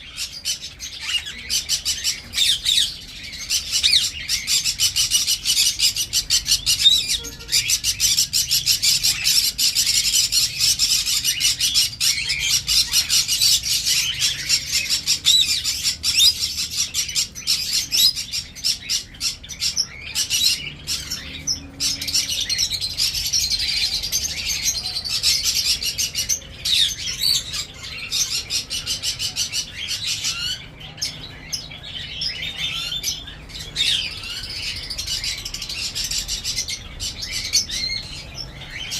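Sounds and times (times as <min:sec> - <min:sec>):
cage birds chirping: 0:00.0 - 0:38.9.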